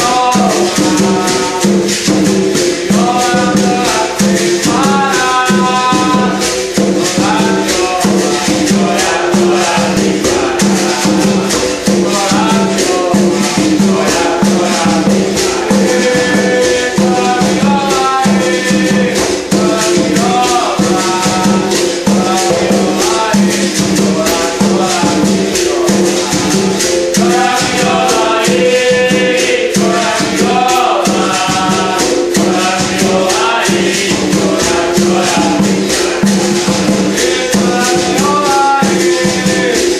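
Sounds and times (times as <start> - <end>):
hand drum: 0.0 - 39.9
men singing: 0.0 - 39.9
shaker rattling: 0.0 - 39.9.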